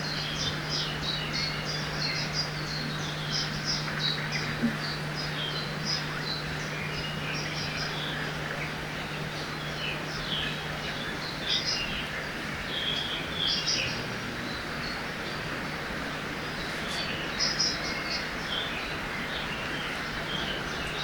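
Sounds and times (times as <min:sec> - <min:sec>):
river water rushing: 0:00.0 - 0:21.0
small birds chirping: 0:00.0 - 0:21.0.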